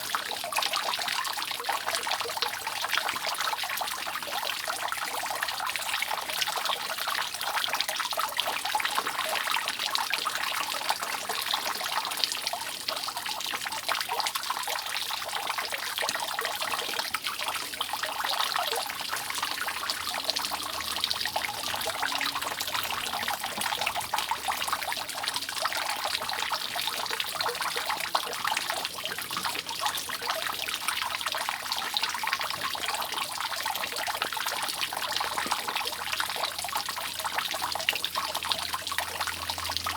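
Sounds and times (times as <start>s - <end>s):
water dripping off roof: 0.0s - 39.9s.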